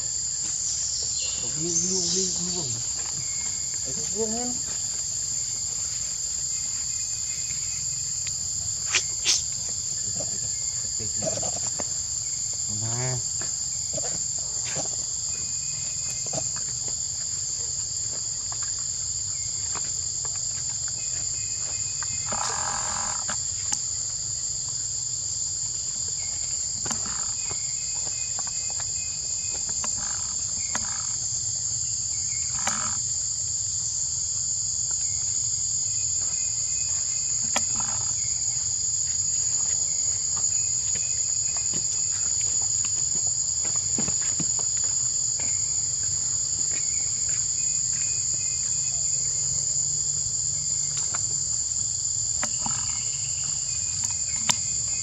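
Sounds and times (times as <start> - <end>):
high-pitched insect chorus: 0.0 - 55.0
short insect calls: 0.0 - 55.0.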